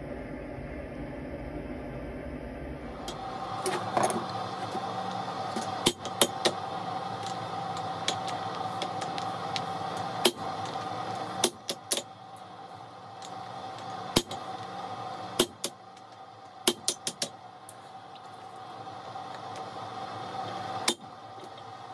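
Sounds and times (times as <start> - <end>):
steady hum: 0.0 - 21.9.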